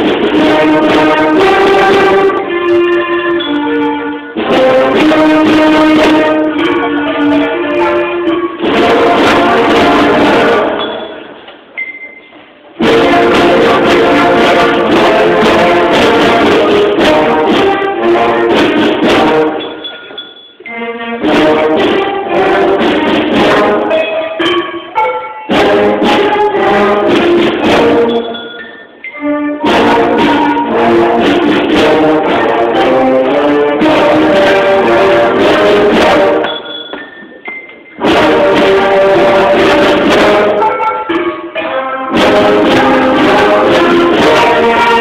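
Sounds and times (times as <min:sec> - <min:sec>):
concert band playing: 0:00.0 - 0:45.0
sharp percussion strokes: 0:00.0 - 0:45.0.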